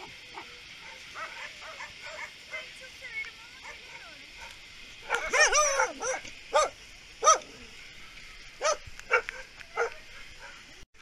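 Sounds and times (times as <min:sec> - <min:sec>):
dogs barking and yelping: 0:00.0 - 0:02.7, 0:03.6 - 0:07.8, 0:08.6 - 0:10.7.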